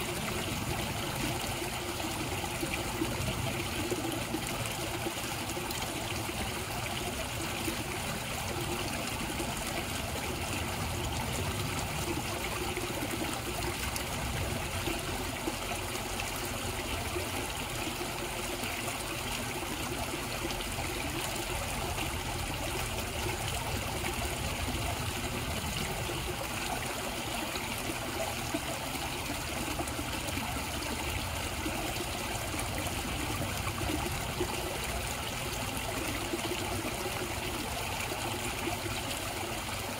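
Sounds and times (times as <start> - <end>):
water trickling in a pond: 0.0 - 39.9.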